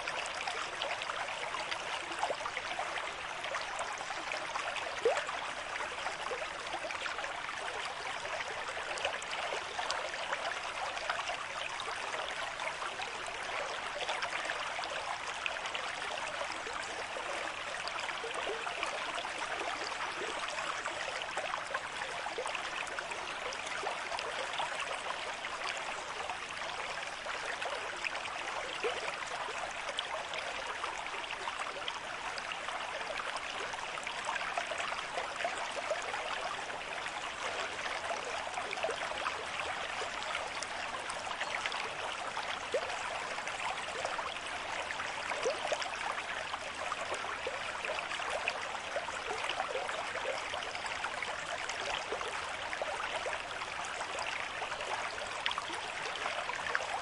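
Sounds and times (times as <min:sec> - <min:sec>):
stream flowing and gurgling: 0:00.0 - 0:57.0.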